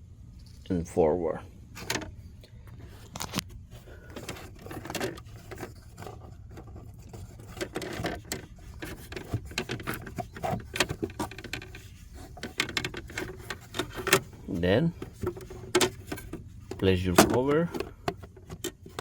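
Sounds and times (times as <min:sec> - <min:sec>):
filter frame scraping: 0:02.8 - 0:19.0.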